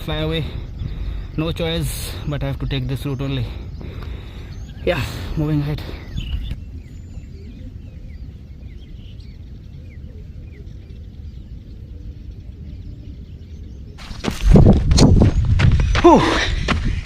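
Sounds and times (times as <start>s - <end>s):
wind rumble on microphone: 0.0s - 3.0s, 3.6s - 17.0s
faint birds chirping: 0.0s - 17.0s.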